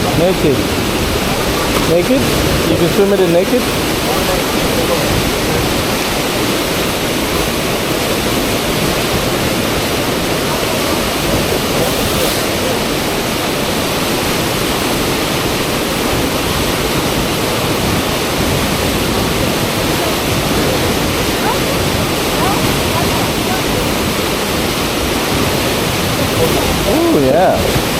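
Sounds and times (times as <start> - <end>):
fast-flowing river water rushing: 0.0 - 27.9.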